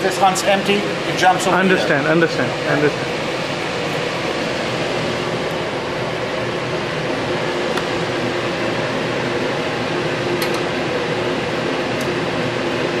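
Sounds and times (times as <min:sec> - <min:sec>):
bobbin-winding machine humming: 0:00.0 - 0:13.0.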